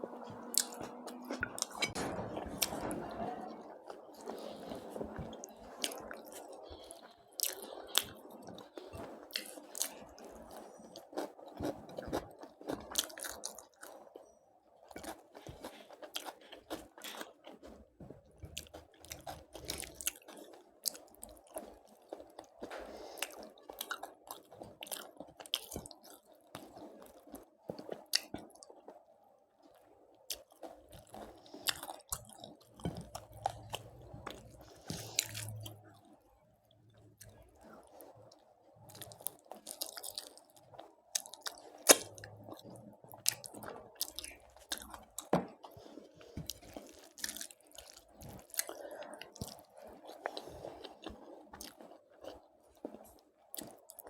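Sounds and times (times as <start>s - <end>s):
person chewing crunchy food: 0.0s - 2.9s, 3.8s - 54.0s.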